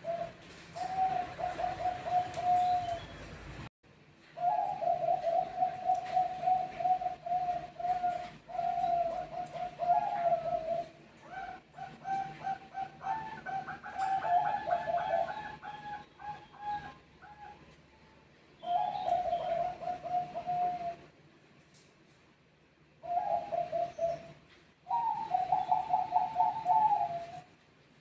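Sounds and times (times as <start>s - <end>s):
doves cooing: 0.0s - 3.4s, 4.4s - 17.8s, 18.6s - 21.2s, 23.0s - 27.6s.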